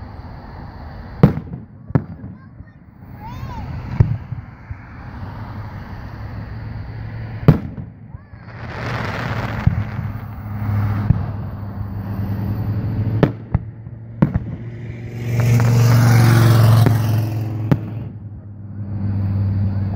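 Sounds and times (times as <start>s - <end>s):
motor vehicle engine hum: 0.0s - 19.9s
fireworks bursting: 0.4s - 19.2s.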